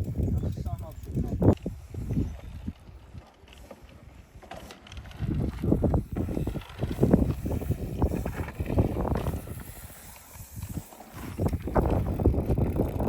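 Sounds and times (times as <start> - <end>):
wind buffeting microphone: 0.0 - 3.2, 4.1 - 13.0.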